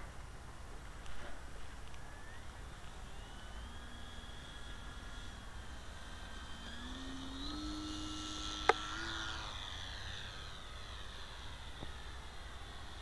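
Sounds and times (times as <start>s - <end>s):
model plane motor and propeller whining: 0.1s - 13.0s.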